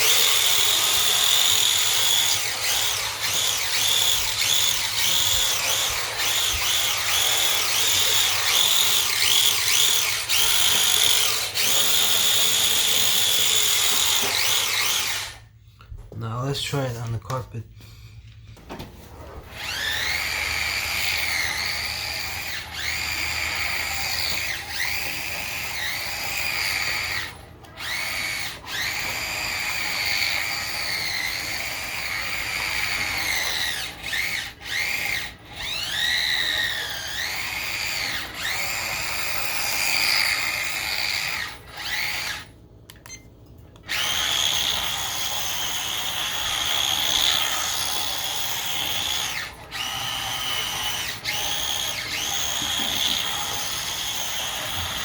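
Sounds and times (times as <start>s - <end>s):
toy car electric motor whining: 0.0s - 15.6s, 19.1s - 43.2s, 43.8s - 55.0s.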